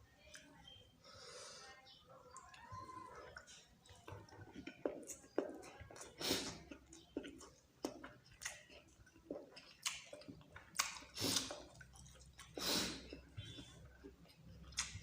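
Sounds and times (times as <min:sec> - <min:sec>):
close chewing with wet smacking: 0:02.3 - 0:15.0.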